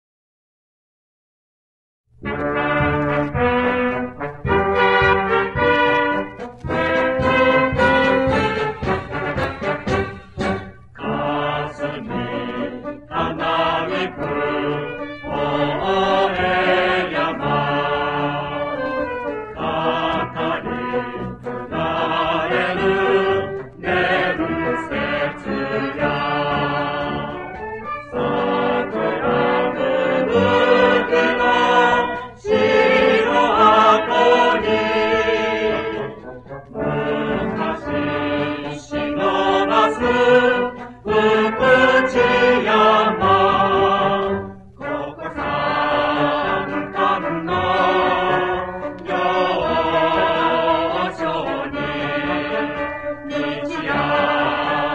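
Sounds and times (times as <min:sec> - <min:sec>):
brass band playing: 0:02.2 - 0:54.9
mixed choir singing: 0:02.6 - 0:54.9.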